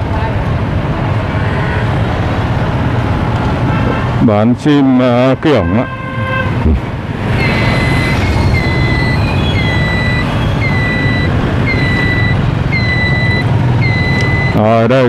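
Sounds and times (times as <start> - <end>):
street traffic and engine noise: 0.0 - 15.0.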